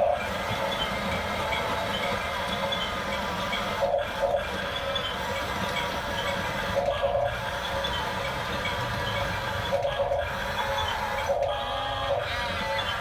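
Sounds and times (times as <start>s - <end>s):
toy bulldozer motors whirring: 0.0s - 13.0s.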